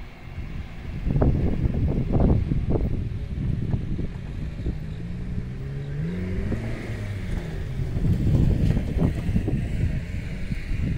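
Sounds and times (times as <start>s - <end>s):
wind rumbling on microphone: 0.0s - 10.9s
engine drone rising in pitch: 0.4s - 10.9s.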